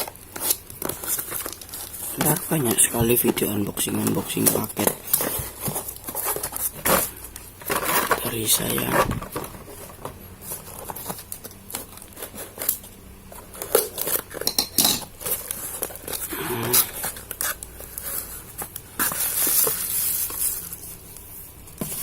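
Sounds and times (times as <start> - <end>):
packaging rustling: 0.0 - 22.0.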